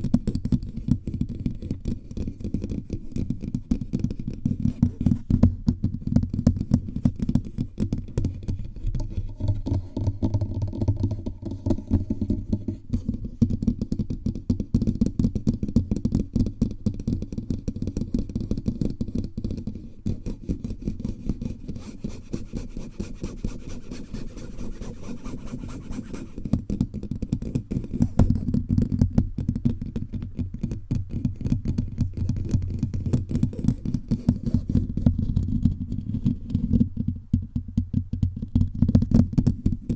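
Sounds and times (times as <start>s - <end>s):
fingers tapping on microphone: 0.1s - 21.4s, 24.4s - 39.9s.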